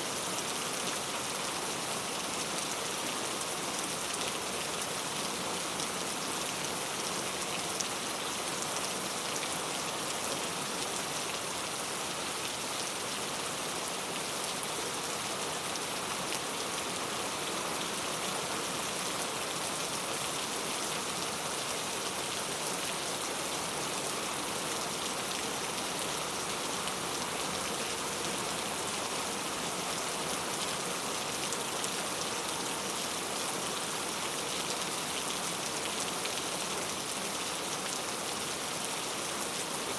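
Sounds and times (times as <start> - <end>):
heavy rain on street: 0.0 - 39.9.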